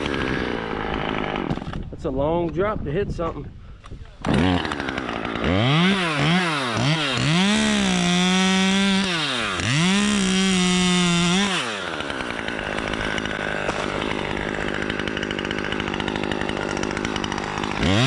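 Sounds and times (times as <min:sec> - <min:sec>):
chainsaw revving: 0:00.0 - 0:01.9, 0:04.2 - 0:18.0.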